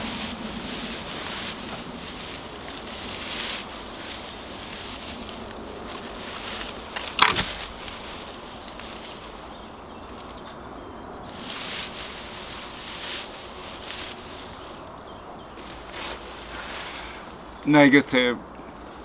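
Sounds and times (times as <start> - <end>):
dry hay rustling and crackling: 0.0 - 19.0.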